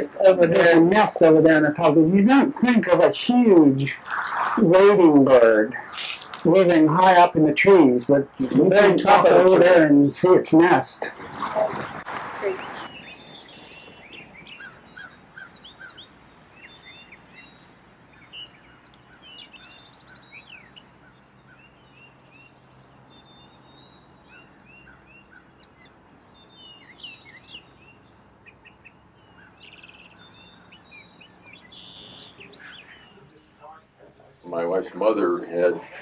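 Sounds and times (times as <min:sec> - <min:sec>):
songbirds singing and chirping: 0:00.0 - 0:36.0.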